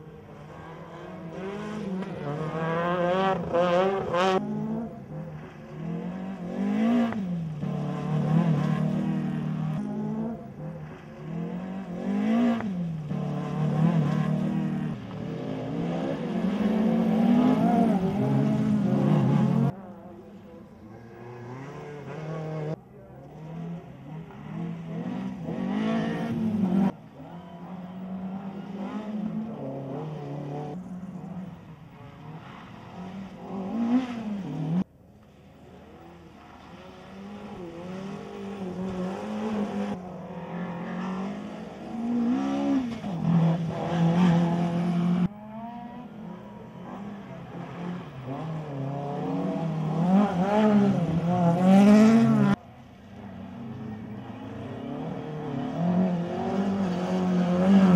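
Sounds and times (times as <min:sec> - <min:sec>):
rally car engines revving: 0:00.0 - 0:57.9.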